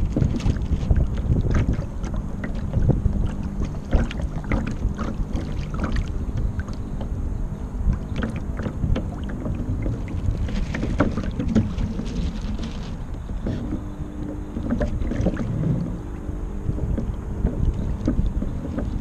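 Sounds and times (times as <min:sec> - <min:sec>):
water slapping against hull: 0:00.0 - 0:19.0
wind rumble on microphone: 0:00.0 - 0:19.0.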